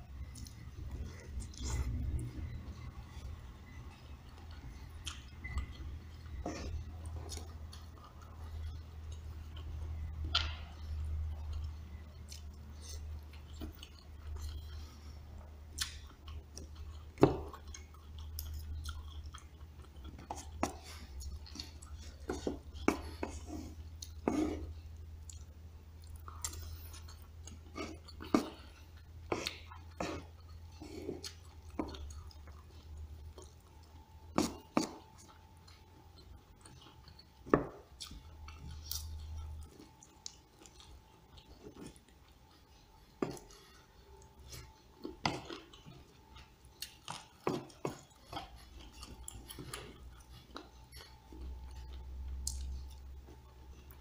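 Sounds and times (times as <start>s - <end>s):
chewing: 0.1s - 54.0s.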